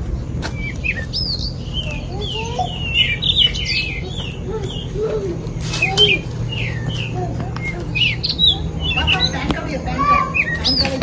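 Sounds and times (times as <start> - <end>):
high gliding bird notes: 0.0 - 10.9
birds chirping: 0.0 - 11.0.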